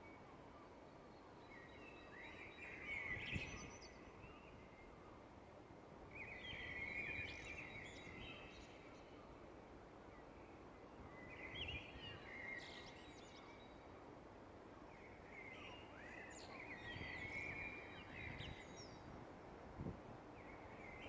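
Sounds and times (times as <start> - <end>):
low background hiss: 0.0 - 21.0.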